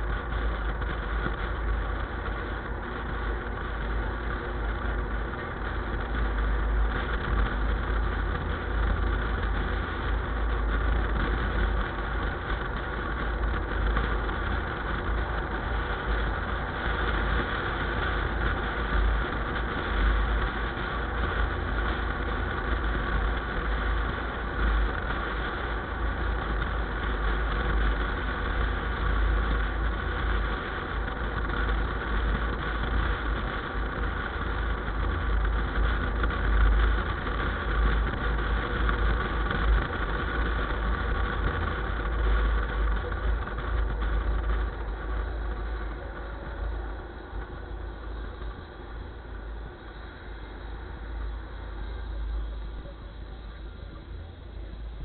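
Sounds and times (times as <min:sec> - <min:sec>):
engine rumbling: 0:00.0 - 0:55.0.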